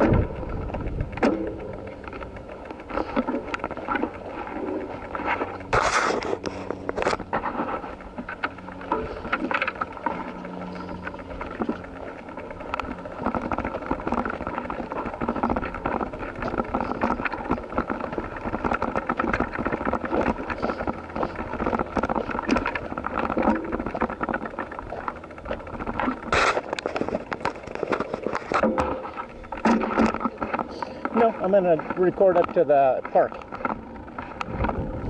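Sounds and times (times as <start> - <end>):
wind noise: 0.0 - 9.7, 13.1 - 35.0
camera rattling in holder: 0.0 - 35.0
low steady hum: 0.0 - 35.0
tyre noise on paved path: 0.0 - 35.0.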